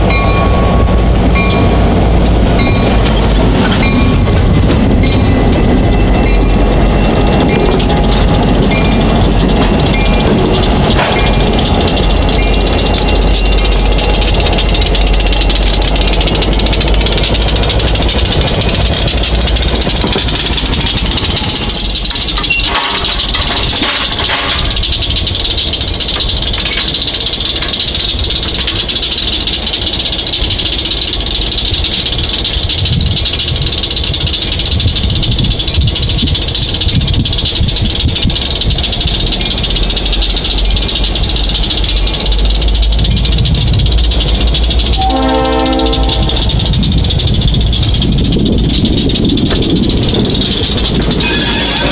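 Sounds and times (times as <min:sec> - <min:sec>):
diesel locomotive engine running: 0:00.0 - 0:51.9
steady high whine: 0:00.0 - 0:51.9
rattling: 0:00.1 - 0:51.9.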